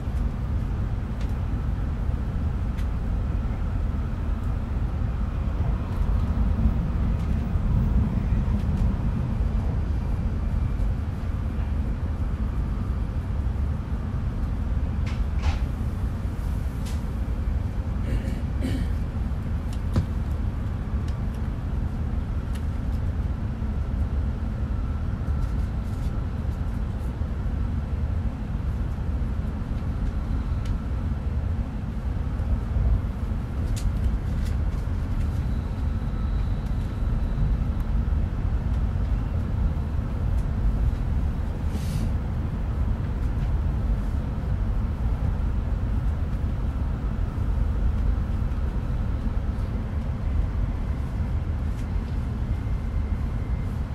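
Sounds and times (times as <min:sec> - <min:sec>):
train cabin low rumble: 0:00.0 - 0:53.9.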